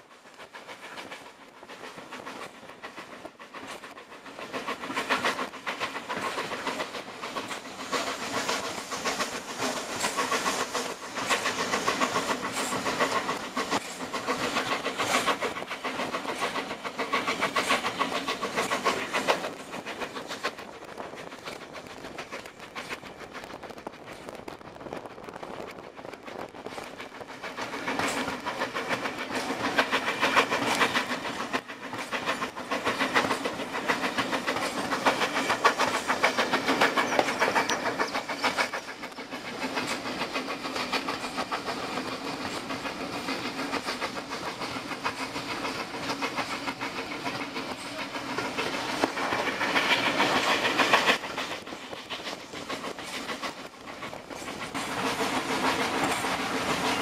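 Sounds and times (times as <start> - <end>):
train carriage rumble: 0.0 - 57.0
wheels clicking over rail joints: 0.0 - 57.0.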